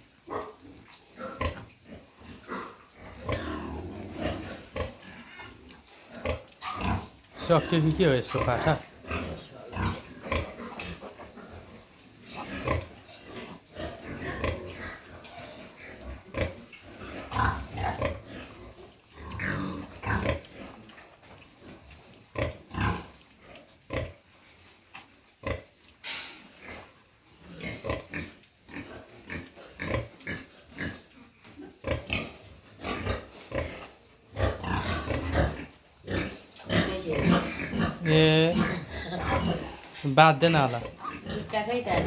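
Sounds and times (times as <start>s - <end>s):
pigs grunting and squealing: 0.0s - 24.3s, 25.4s - 42.0s.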